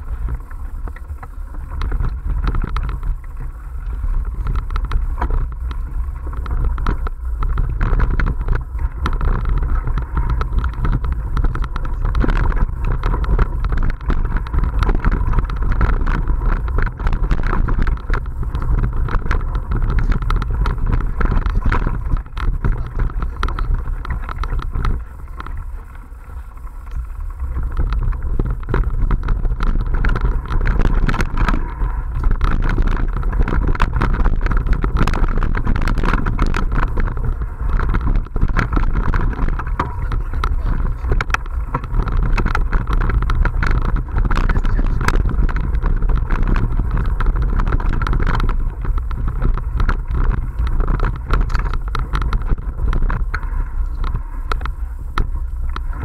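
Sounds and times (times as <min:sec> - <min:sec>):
bike rattling and knocking: 0:00.0 - 0:56.0
wind rumbling on microphone: 0:00.0 - 0:56.0.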